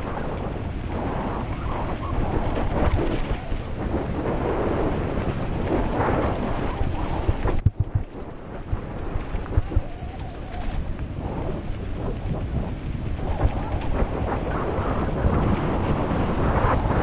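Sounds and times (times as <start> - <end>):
tyres rumbling on gravel: 0.0 - 17.0
wind on microphone: 0.0 - 17.0
bike knocks and rattles: 2.4 - 16.5.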